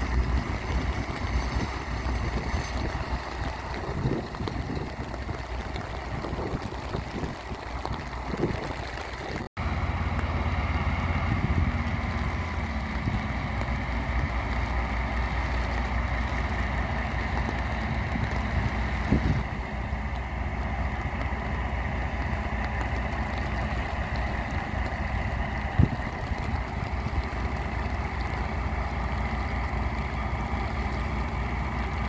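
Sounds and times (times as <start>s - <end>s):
diesel locomotive engine rumbling: 0.0s - 32.0s
rain: 0.0s - 32.0s.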